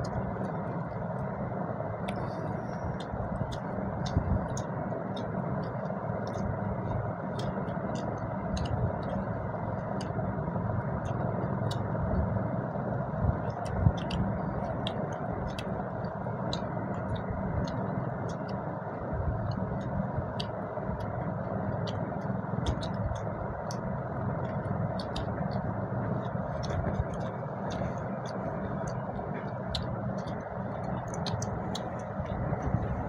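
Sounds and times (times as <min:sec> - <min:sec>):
steady low hum: 0:00.0 - 0:33.0
wet chewing and lip-smacking: 0:00.0 - 0:33.0.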